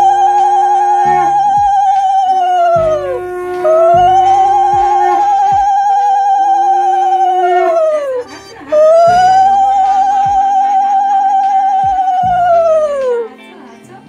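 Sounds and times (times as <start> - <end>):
accompaniment and bass notes: 0.0 - 13.3
long held notes with vibrato: 0.0 - 13.3.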